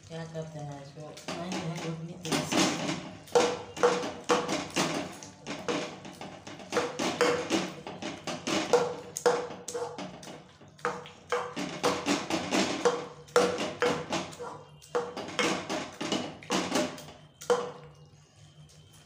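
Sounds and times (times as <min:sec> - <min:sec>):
metal tumbler knocking on pan: 0:01.2 - 0:17.8.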